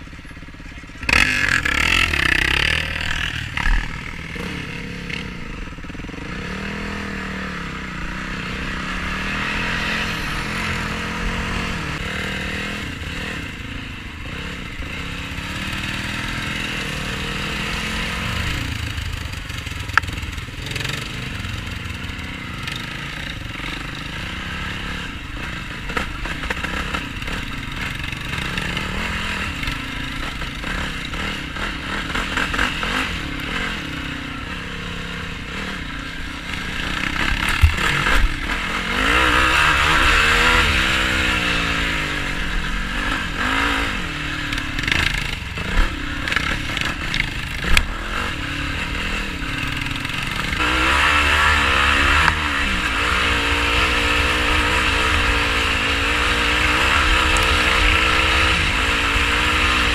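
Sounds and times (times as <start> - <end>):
quad engine revving: 0.2 - 59.9.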